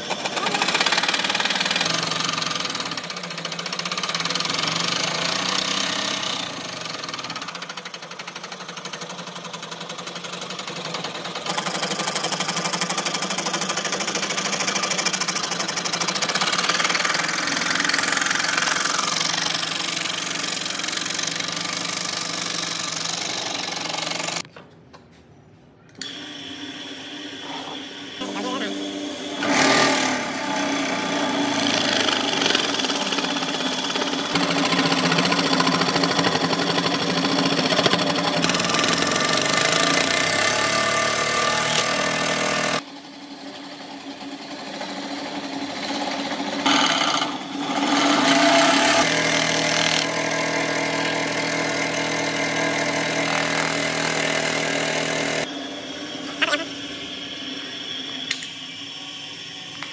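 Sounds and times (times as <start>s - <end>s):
scroll saw running: 0.0s - 24.5s, 26.0s - 59.9s.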